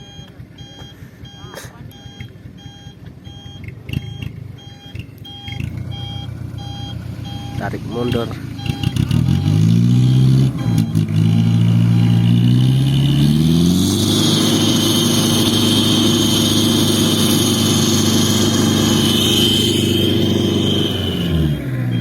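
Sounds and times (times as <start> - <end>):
truck engine revving with whine: 0.0 - 22.0.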